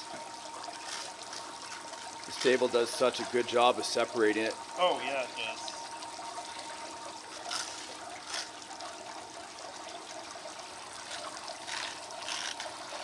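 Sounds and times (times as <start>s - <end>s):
water splashing trickle: 0.0s - 13.0s.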